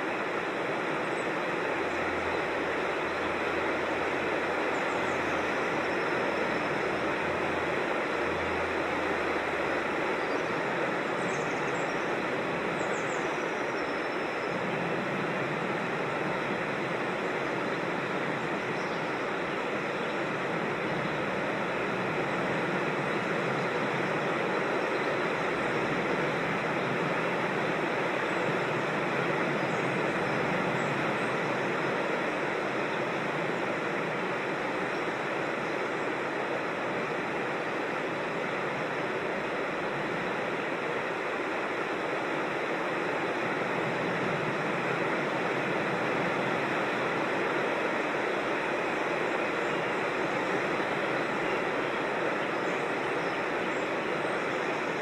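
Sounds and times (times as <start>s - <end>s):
creek water tumbling over falls: 0.0s - 55.0s.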